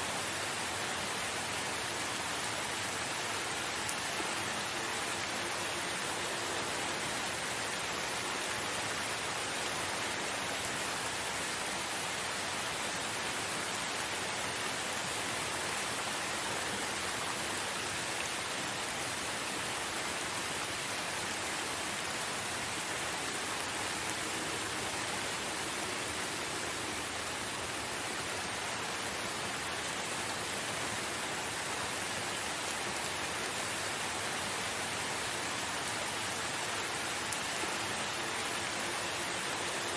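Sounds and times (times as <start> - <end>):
steady rain falling in forest: 0.0 - 39.9.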